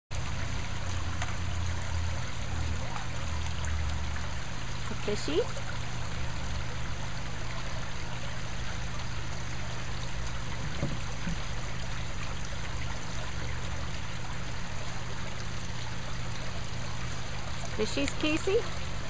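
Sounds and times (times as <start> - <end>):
water trickling into pond: 0.1 - 19.0.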